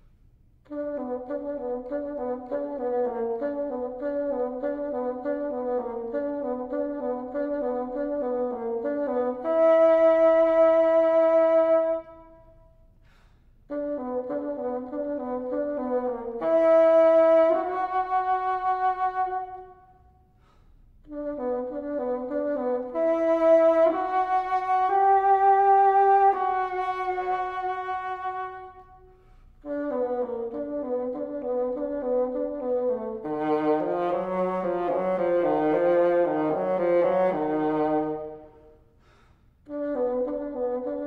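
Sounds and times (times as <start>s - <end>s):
solo bassoon playing slowly: 0.6s - 41.0s.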